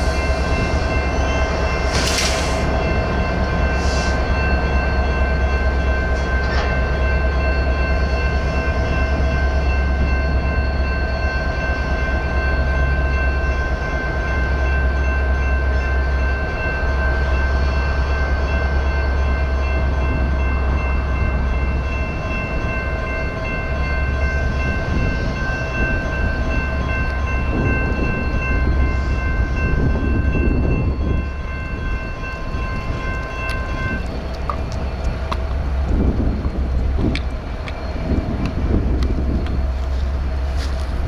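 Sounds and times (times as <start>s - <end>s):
railroad crossing bell ringing: 0.0s - 41.0s.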